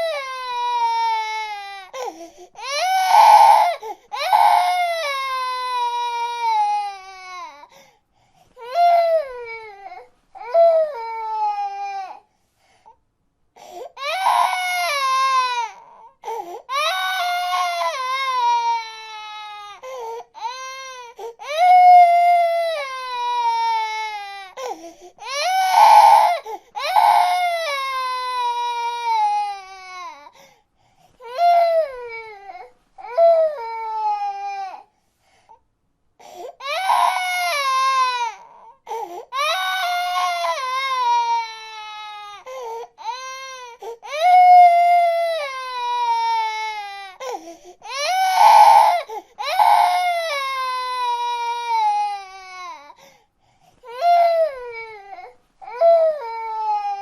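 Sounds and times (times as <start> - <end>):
baby crying: 0.0 - 7.8, 8.6 - 12.3, 13.8 - 30.4, 31.2 - 34.9, 36.2 - 53.1, 53.9 - 57.0.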